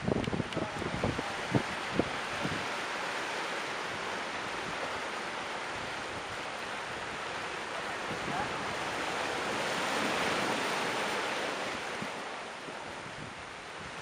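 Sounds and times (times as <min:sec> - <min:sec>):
sea surf on rocky shore: 0:00.0 - 0:14.0.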